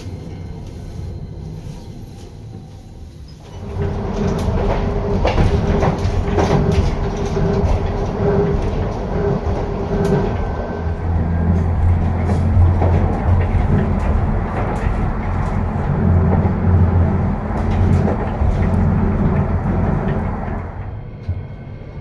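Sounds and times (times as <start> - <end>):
streetcar rumbling on rails: 0.0 - 22.0
knocks and rattles: 3.6 - 21.5.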